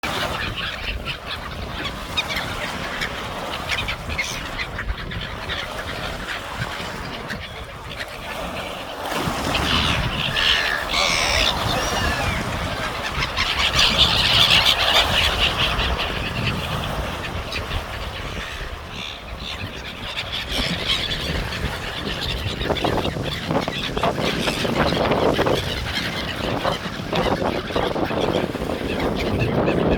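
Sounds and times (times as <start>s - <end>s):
gulls calling and squabbling: 0.0s - 29.9s.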